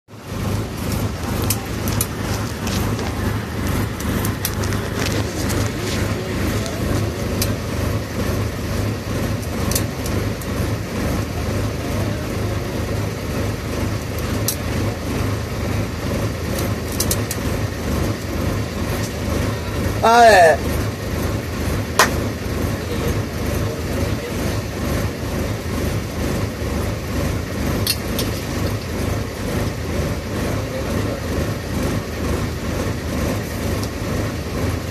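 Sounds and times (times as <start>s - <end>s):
bus engine and road rumble: 0.1s - 34.9s.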